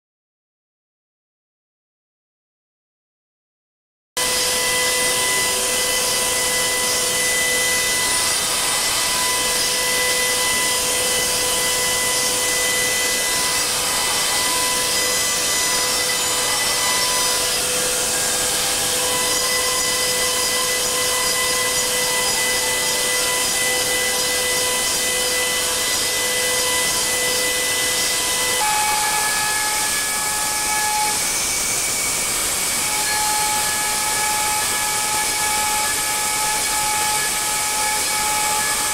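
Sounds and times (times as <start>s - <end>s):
milling machine cutting steel: 4.2s - 38.9s.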